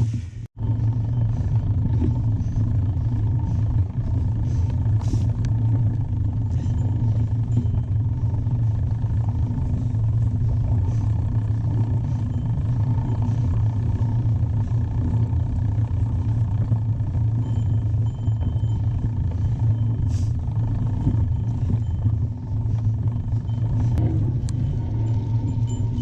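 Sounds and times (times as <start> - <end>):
wind and riding rumble: 0.0 - 26.0.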